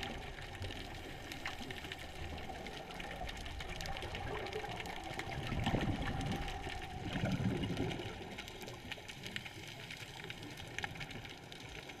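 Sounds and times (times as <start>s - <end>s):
faint clicks: 0.0s - 12.0s
scuba exhaust bubbles gurgling: 0.0s - 12.0s
steady underwater hiss: 0.0s - 12.0s.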